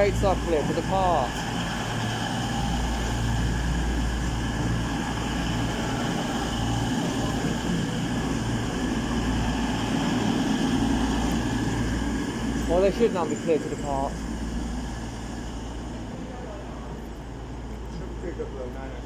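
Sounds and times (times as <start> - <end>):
diesel train engines idling: 0.0 - 19.0.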